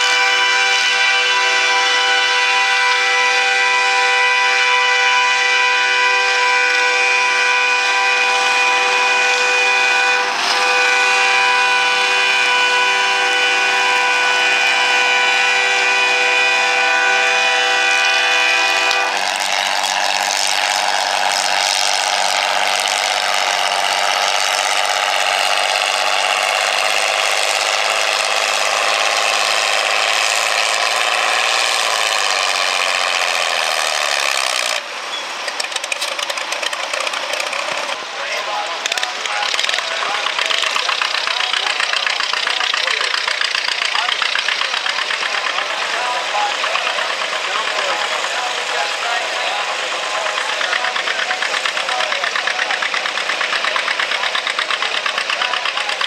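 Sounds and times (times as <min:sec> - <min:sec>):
tractor engine under load: 0:00.0 - 0:56.0.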